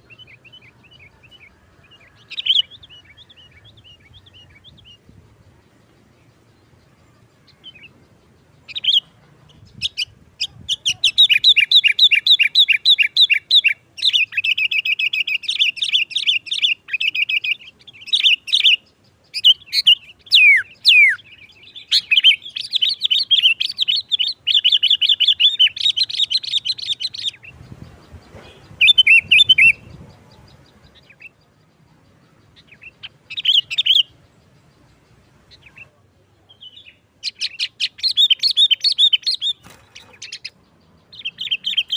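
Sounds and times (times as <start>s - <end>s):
bird chattering song: 0.0s - 41.9s.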